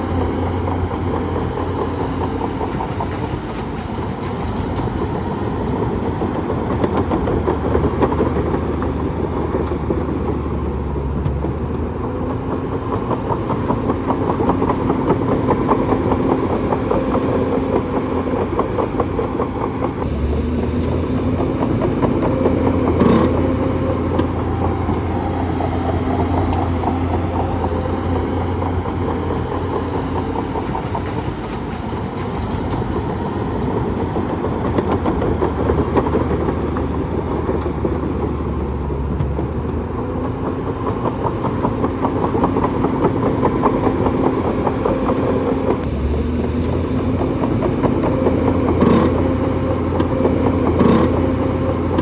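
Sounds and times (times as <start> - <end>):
diesel engine rattling: 0.0 - 52.0.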